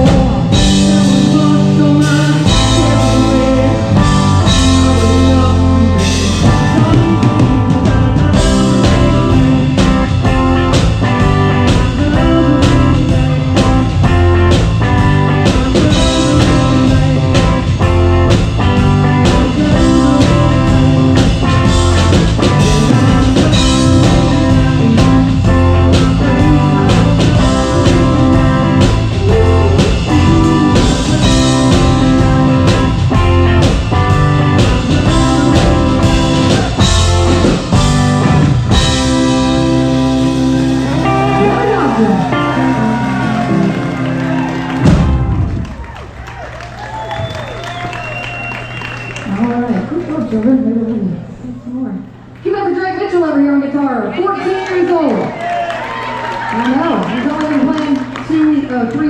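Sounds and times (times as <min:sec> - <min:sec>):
rock band playing: 0:00.0 - 0:49.6.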